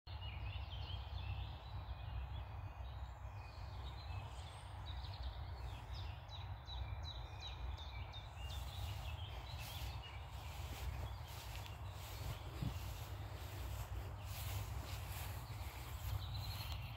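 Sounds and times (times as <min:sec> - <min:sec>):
birds singing and calling: 0:00.1 - 0:16.9
steady low rumble: 0:01.4 - 0:16.9.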